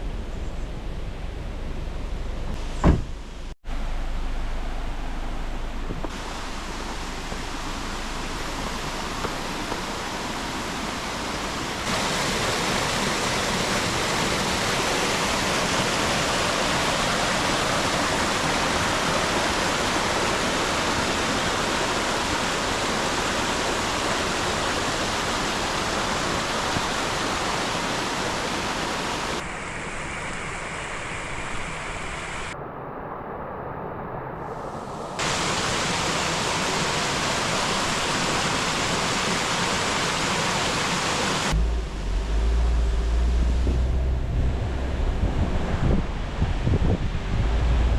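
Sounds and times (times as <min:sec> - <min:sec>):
stream water rushing: 0:02.5 - 0:32.6, 0:34.6 - 0:43.9.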